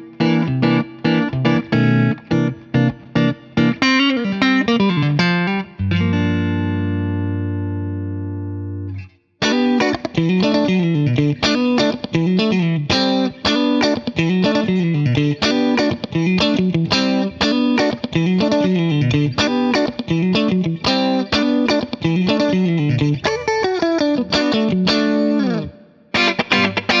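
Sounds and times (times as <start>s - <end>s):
clean electric guitar riff: 0.0s - 27.0s.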